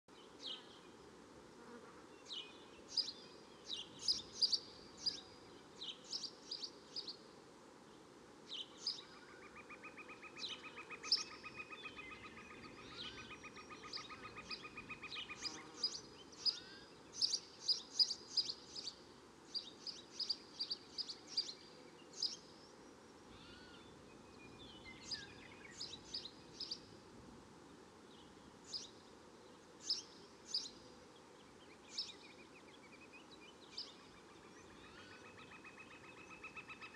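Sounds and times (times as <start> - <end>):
faint steady hiss: 0.1 - 36.9.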